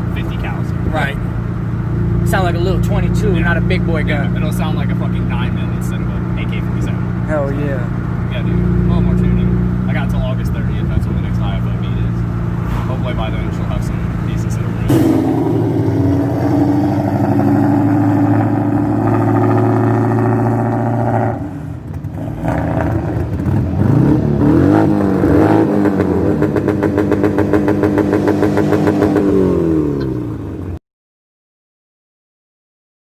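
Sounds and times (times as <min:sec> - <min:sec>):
car engine revving: 0:00.0 - 0:30.8.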